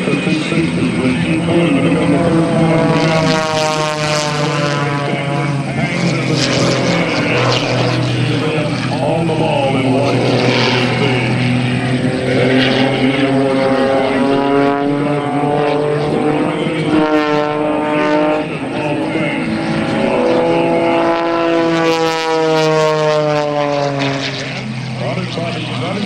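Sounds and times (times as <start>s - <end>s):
propeller plane engine running: 0.0s - 26.0s.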